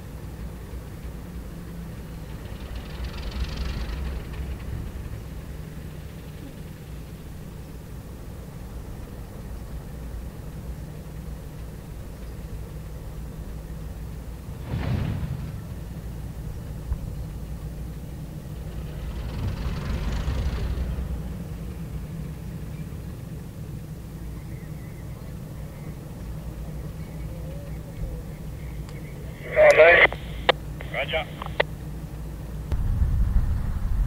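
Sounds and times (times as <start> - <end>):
diesel locomotive engines running: 0.0 - 34.0.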